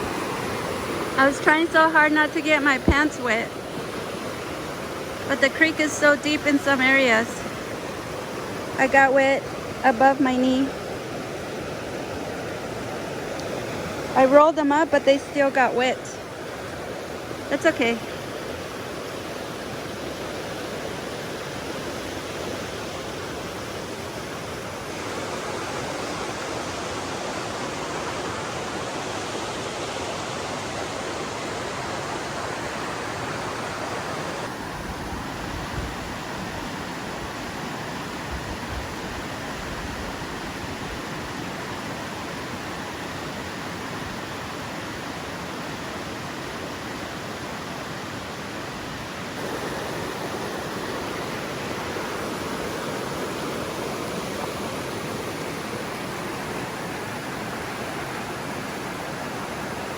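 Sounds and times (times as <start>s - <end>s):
creek rushing over rocks: 0.0s - 59.9s.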